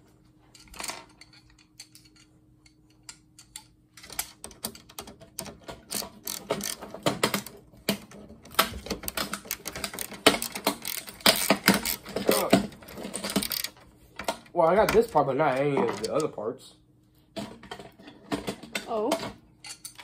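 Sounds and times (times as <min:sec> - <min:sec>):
tools and parts clicking and rattling: 0:00.1 - 0:16.4, 0:17.3 - 0:20.0.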